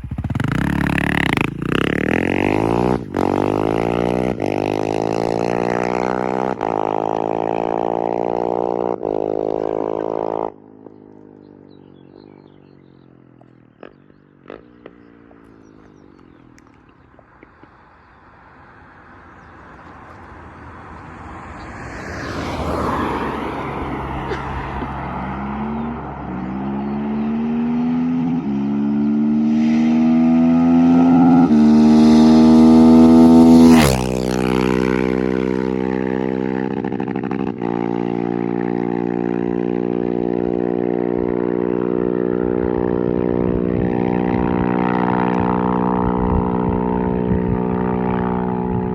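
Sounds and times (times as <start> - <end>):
motorcycle engine revving: 0.0 - 17.7, 18.5 - 48.9.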